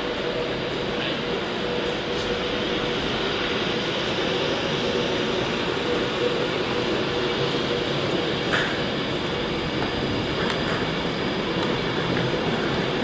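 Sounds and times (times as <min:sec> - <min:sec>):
train running: 0:00.0 - 0:13.0.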